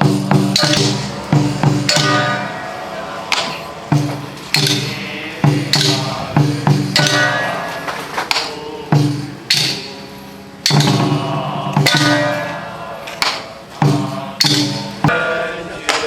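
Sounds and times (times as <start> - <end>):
cymbals struck: 0.0 - 15.5
gongs struck: 0.0 - 15.6.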